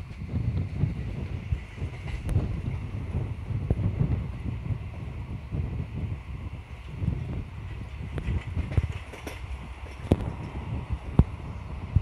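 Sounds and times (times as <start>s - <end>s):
train wheels rumbling on rails: 0.0s - 12.0s
wind buffeting microphone: 0.0s - 12.0s.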